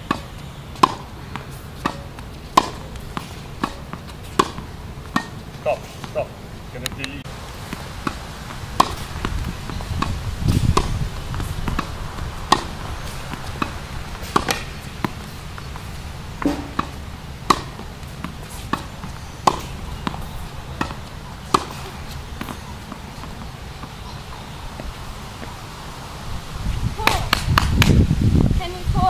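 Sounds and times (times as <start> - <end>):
racquet striking tennis ball: 0.0 - 25.6, 27.0 - 28.0
tennis ball bouncing: 0.0 - 25.6, 27.0 - 28.0.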